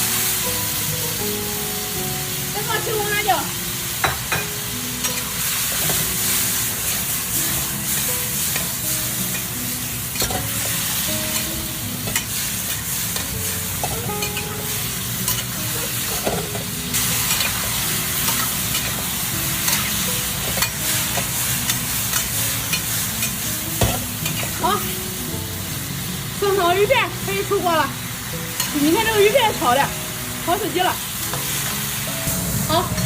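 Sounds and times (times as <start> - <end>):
fish sizzling in a pan: 0.0 - 33.0.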